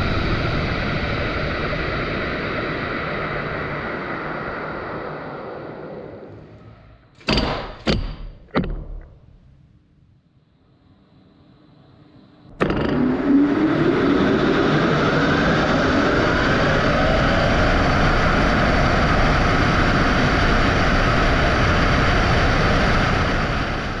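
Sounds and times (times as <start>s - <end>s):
rising whine: 0.0s - 7.2s, 10.4s - 24.0s.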